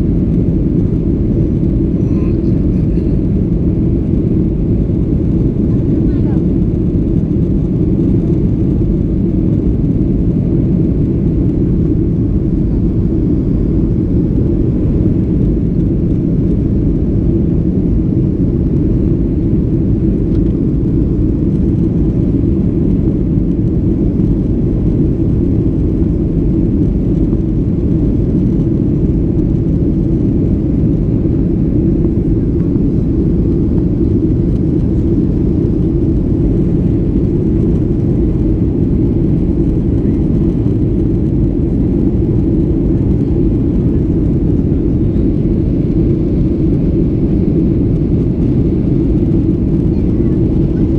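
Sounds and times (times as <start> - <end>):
airplane cabin engine rumble: 0.0 - 50.9.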